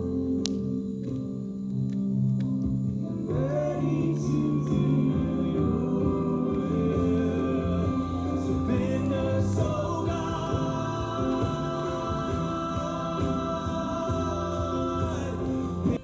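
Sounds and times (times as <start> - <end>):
choir singing over chords: 3.0 - 16.0.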